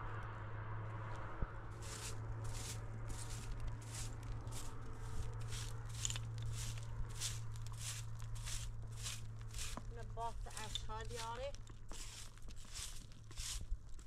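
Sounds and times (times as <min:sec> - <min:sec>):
broom sweeping dirt: 0:01.7 - 0:14.0.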